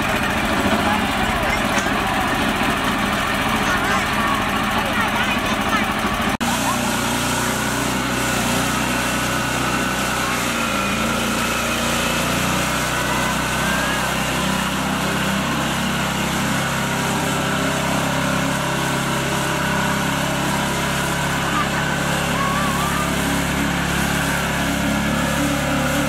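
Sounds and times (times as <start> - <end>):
small tractor engine running: 0.0 - 26.0.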